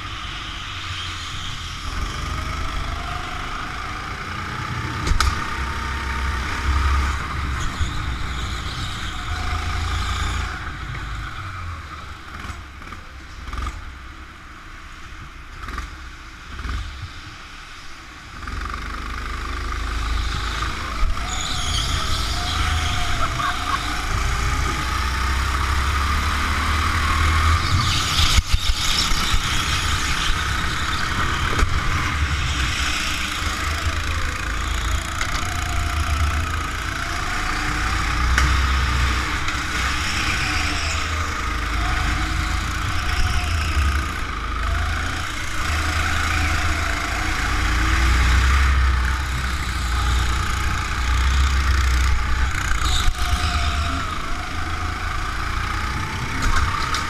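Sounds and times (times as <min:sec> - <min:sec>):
go-kart engine revving: 0:00.0 - 0:14.3, 0:18.2 - 0:57.0.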